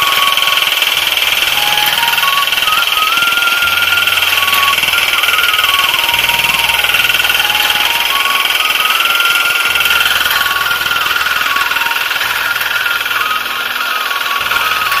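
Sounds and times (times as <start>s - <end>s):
cutting and binding gear working: 0.0s - 15.0s
diesel engine running: 0.0s - 15.0s.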